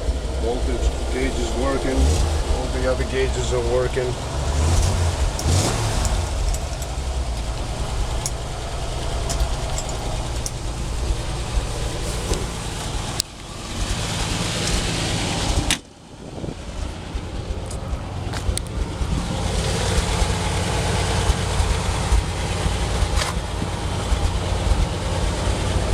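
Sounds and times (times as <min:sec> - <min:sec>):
engine idling: 0:00.0 - 0:25.9.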